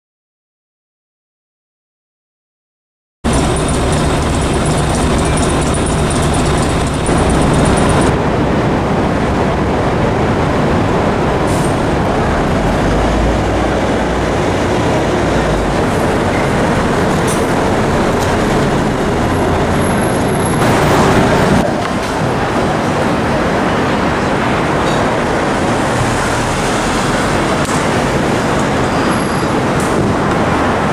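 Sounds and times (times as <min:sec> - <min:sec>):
city street traffic: 0:03.2 - 0:30.9.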